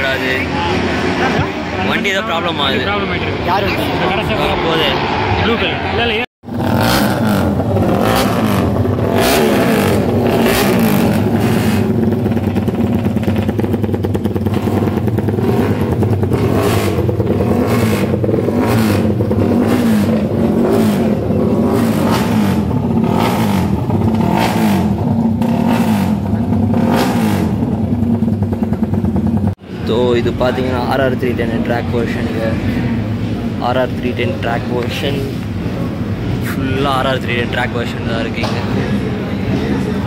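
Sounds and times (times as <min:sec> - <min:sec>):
racing motorcycle engines revving: 0:00.0 - 0:40.0.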